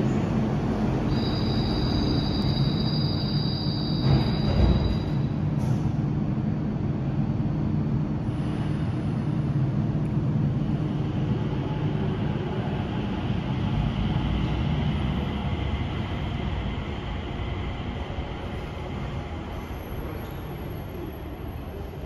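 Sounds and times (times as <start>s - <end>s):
train car low rumble: 0.0s - 22.0s.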